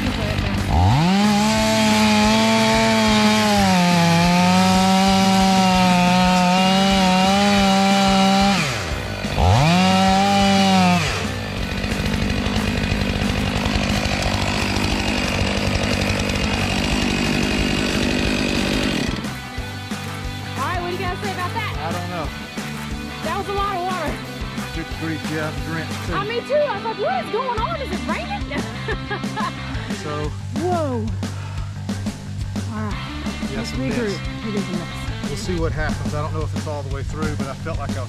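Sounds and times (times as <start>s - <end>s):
chainsaw cutting log: 0.0s - 30.4s, 31.2s - 36.1s.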